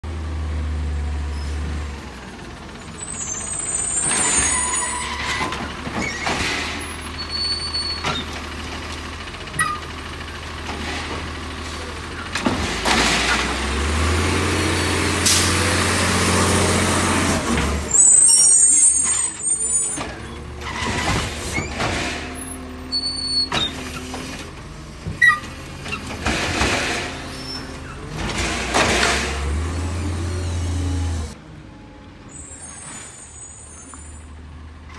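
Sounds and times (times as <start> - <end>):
garbage truck engine running: 1.8 - 31.4.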